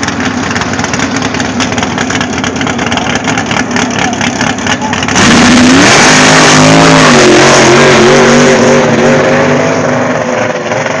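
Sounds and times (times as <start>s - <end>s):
drag car engine at full throttle: 0.0s - 11.0s.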